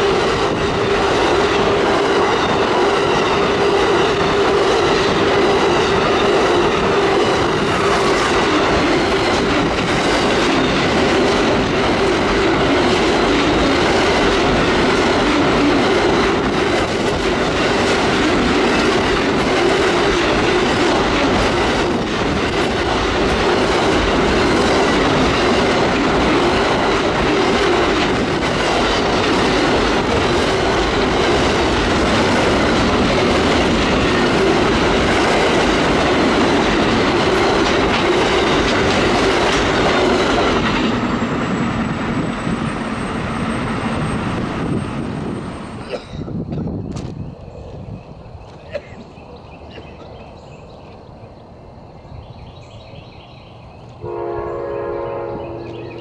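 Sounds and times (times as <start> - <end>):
train wheels clacking on rail: 0.0 - 47.2.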